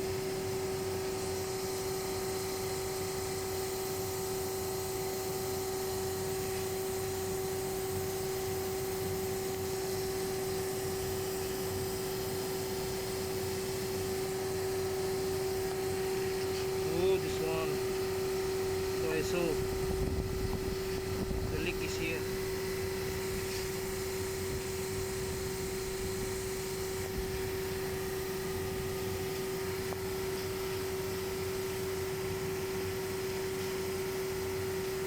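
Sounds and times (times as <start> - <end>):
machine hum with whine: 0.0 - 35.0.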